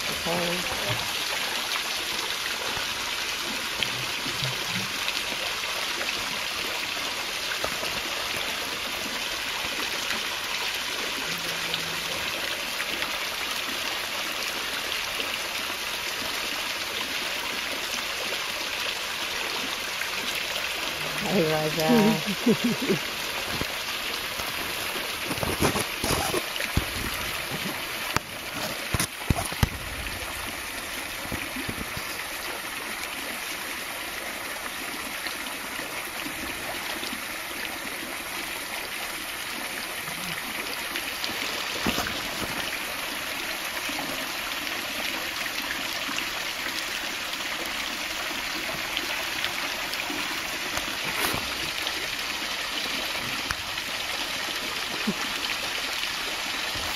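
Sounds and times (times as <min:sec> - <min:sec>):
waterfall trickling into pool: 0:00.0 - 0:56.9.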